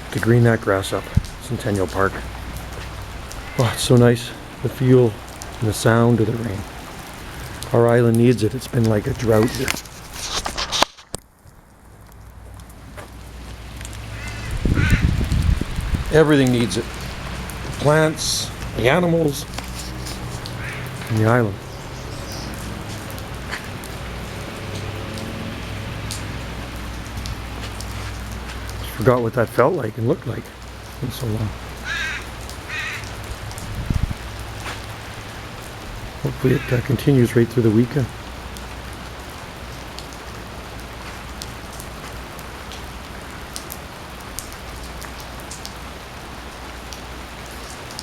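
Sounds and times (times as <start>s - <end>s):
rain pattering: 0.0s - 48.0s.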